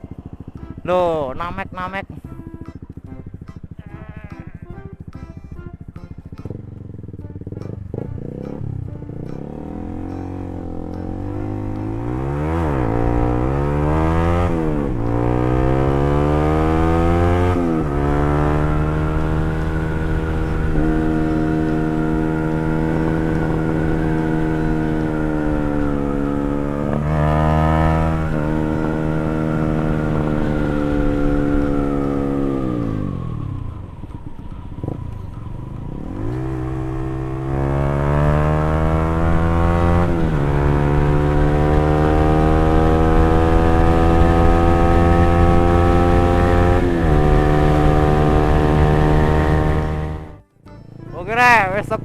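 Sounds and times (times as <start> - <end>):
motorcycle engine riding: 0.0 - 52.0.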